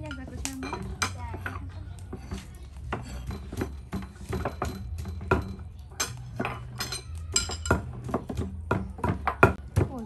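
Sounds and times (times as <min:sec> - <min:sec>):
pestle pounding in mortar: 0:00.0 - 0:10.0.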